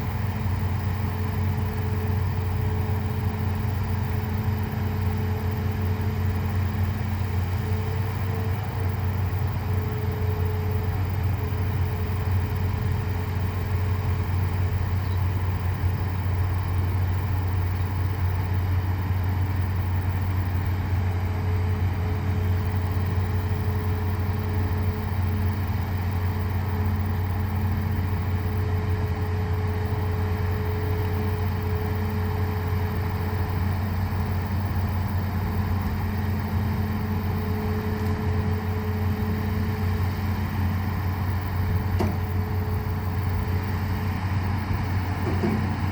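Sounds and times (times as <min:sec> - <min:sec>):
diesel engine humming: 0:00.0 - 0:45.9.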